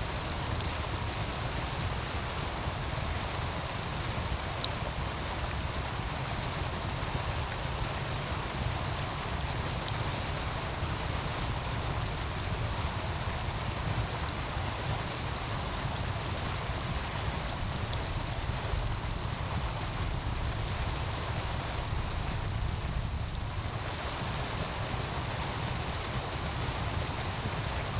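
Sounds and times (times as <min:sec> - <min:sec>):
wood fire crackling: 0:00.0 - 0:27.9
low wind rumble: 0:00.1 - 0:27.9.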